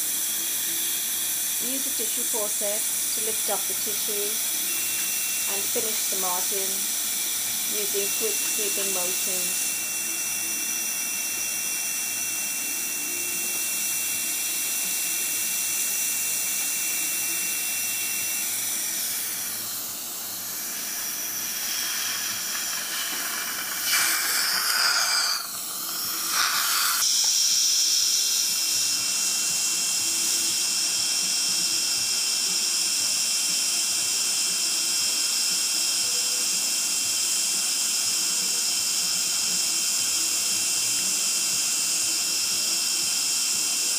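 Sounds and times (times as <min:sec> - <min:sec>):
dental suction hissing: 0:00.0 - 0:43.9.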